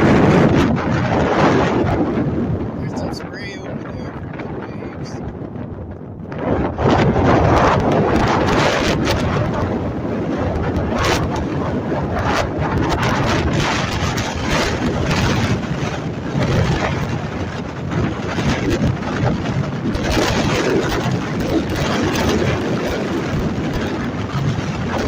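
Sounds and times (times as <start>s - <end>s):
gusty wind buffeting microphone: 0.0s - 25.0s.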